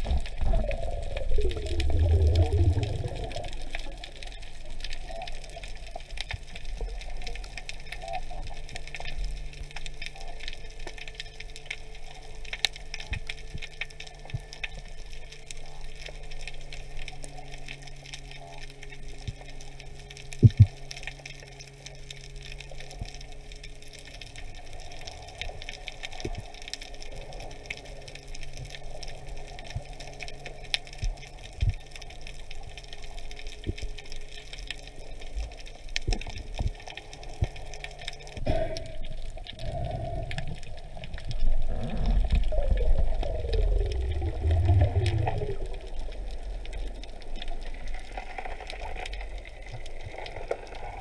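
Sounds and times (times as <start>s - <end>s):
faint steady hum: 0.0s - 51.0s
underwater crackling and clicks: 0.0s - 51.0s.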